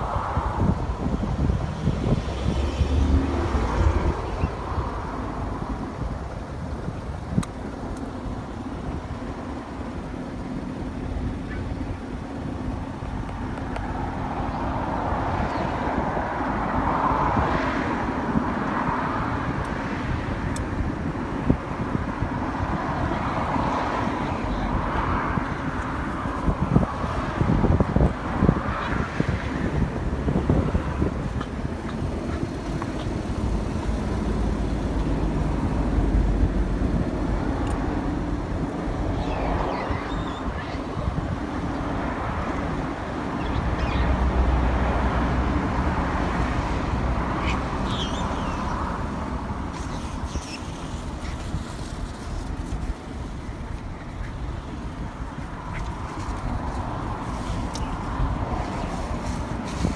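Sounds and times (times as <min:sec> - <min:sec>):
traffic rumble: 0:00.0 - 0:59.9
vehicles passing: 0:00.0 - 0:59.9.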